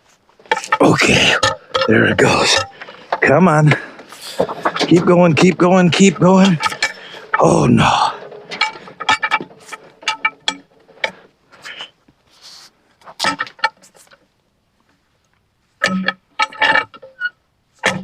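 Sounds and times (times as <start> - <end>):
metal clanks and knocks: 0.4 - 11.7, 13.1 - 14.3, 15.8 - 18.0.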